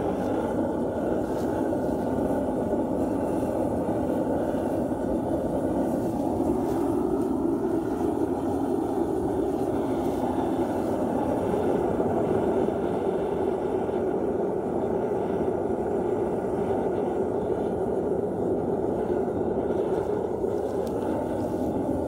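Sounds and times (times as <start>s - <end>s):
furnace burner roaring: 0.0s - 22.0s.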